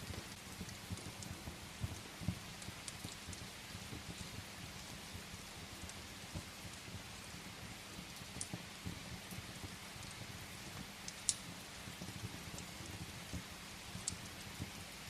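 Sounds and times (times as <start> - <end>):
firewood crackling and popping: 0.0 - 15.0
steady rain: 0.0 - 15.0.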